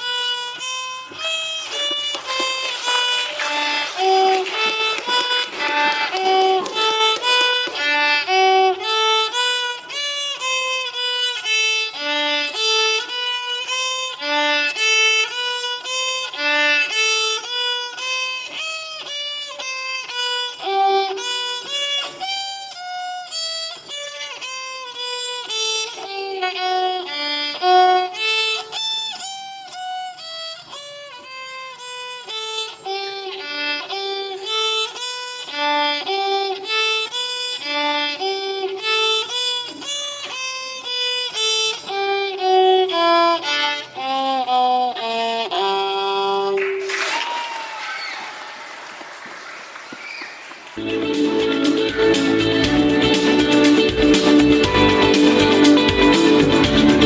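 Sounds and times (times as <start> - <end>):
violin melody: 0.0 - 46.9, 50.8 - 57.0.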